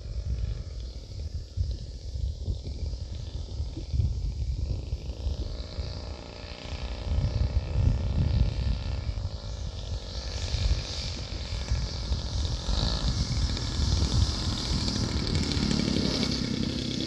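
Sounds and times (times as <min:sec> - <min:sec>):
model airplane engine running: 0:00.0 - 0:17.0
wind rumbling on microphone: 0:00.0 - 0:17.0.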